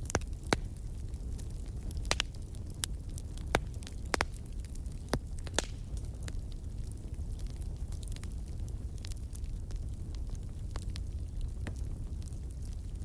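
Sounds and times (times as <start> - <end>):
low rumble of flame: 0.0 - 13.0
wood fire crackling and popping: 0.0 - 13.0.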